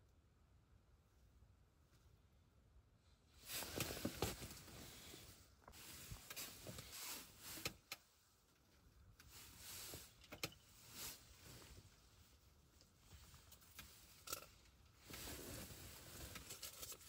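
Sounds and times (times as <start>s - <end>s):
faint rustling and scraping: 1.0s - 17.0s.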